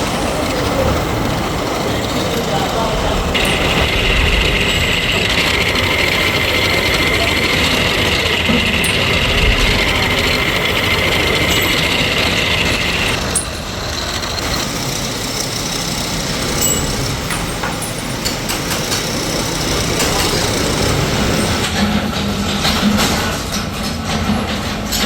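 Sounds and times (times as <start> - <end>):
high machine whine: 0.0 - 21.9
metalworking machinery running: 0.0 - 25.0.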